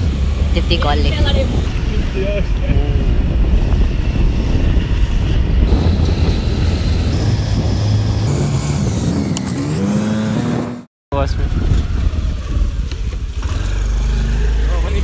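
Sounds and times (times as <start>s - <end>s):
scooter engine rumbling: 0.0s - 15.0s.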